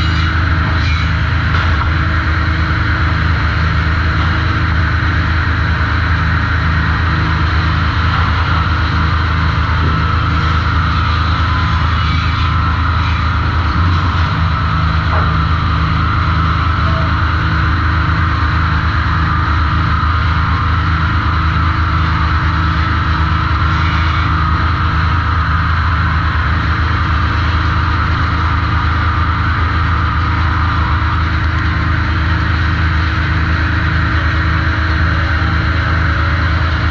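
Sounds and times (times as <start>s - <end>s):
sawmill machinery drone: 0.0s - 36.9s.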